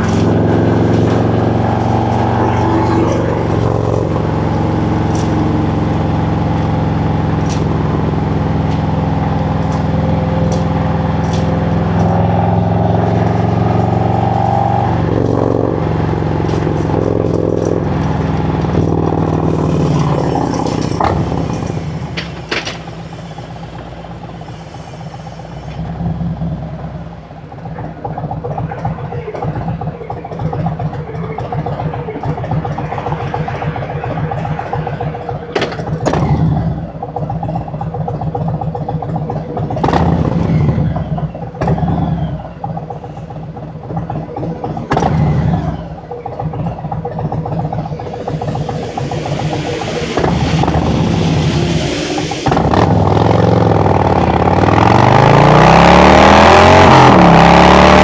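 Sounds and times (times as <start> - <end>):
motorcycle engine cruising and idling: 0.0 - 58.0.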